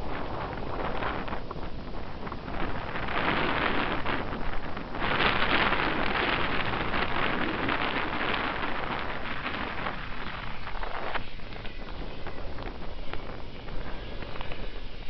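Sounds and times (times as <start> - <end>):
choppy lake water: 0.0 - 15.0
wind over microphone: 0.0 - 15.0.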